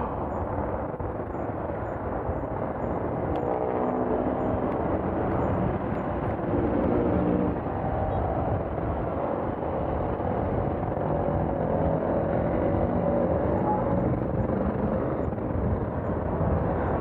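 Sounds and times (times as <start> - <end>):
city road traffic rush: 0.0 - 17.0
passing vehicle engines humming: 0.0 - 17.0.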